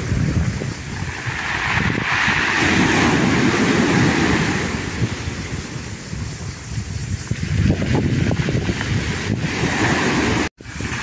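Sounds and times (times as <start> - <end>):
waves washing up pebble beach: 0.0 - 6.7, 7.7 - 11.0
wind buffeting microphone: 0.0 - 11.0.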